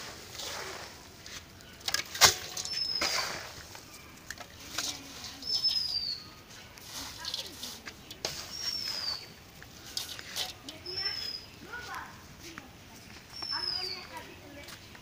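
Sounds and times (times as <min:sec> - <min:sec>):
feed rustling and scraping: 0:00.0 - 0:12.2.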